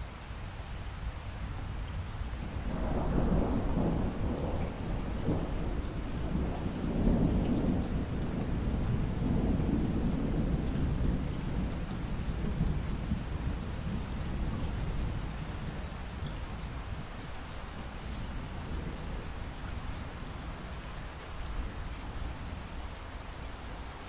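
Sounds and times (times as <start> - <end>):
steady rain: 0.0 - 24.0
thunder rumbling: 2.3 - 22.7.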